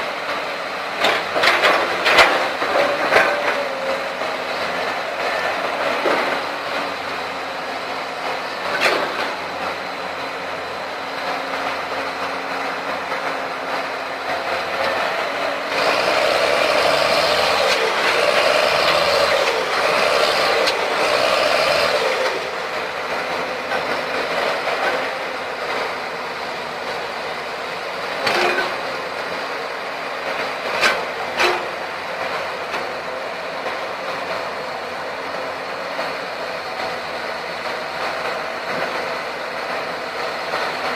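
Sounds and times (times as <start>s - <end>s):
diesel machinery engines running: 0.0s - 40.9s.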